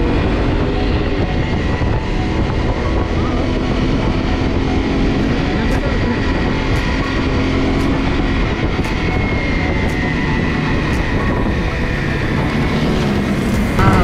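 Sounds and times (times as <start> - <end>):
motorcycle engine running: 0.0 - 14.0
wind noise: 0.0 - 14.0.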